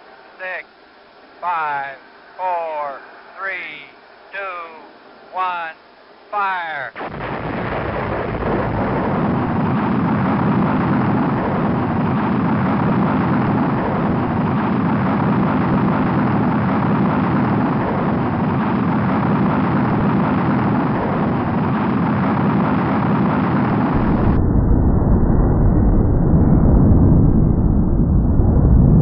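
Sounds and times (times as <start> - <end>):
rocket engines rumbling: 0.0 - 29.0.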